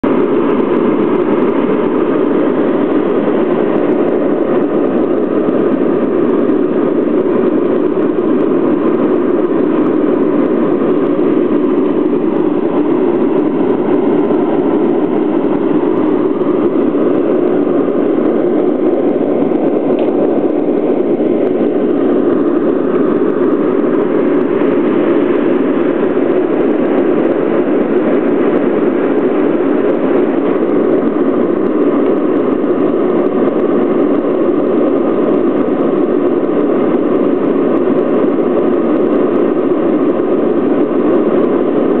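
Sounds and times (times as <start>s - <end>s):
jet engines droning: 0.0s - 42.0s.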